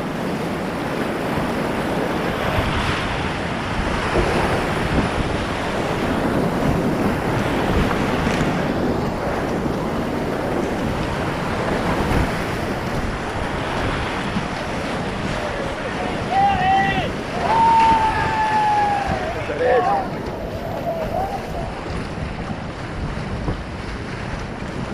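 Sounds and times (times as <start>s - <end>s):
whitewater rushing and splashing: 0.0s - 24.9s.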